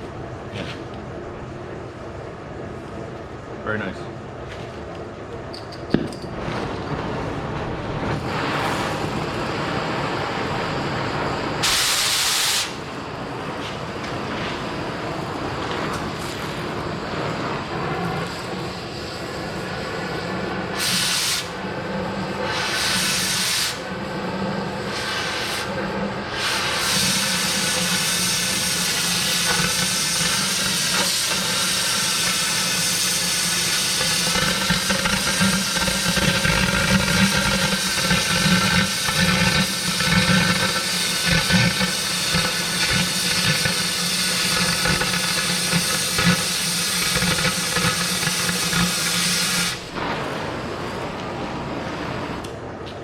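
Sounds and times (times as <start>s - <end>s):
cutting torch hissing: 6.4s - 52.6s.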